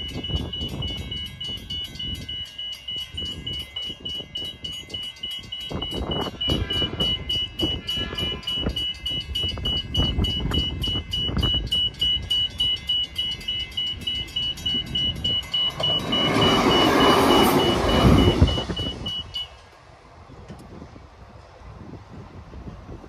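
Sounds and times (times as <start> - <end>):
level crossing bells ringing: 0.0 - 19.7
electric train rumbling past: 0.0 - 23.0.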